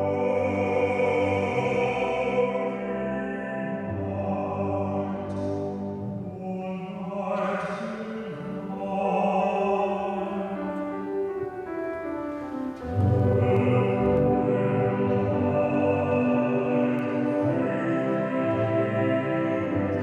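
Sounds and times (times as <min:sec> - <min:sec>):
choral singing: 0:00.0 - 0:20.0.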